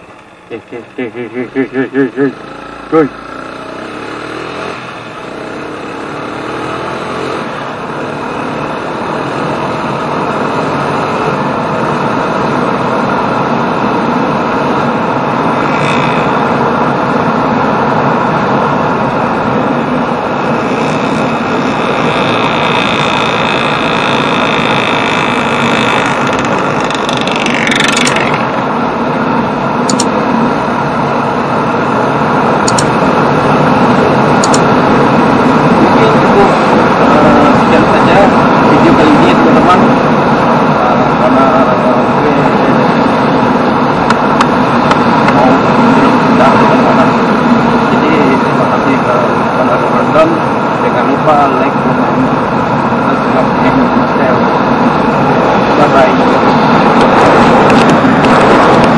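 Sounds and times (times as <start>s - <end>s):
motorcycle engine: 0.0s - 58.9s
wind and road noise: 0.0s - 58.9s.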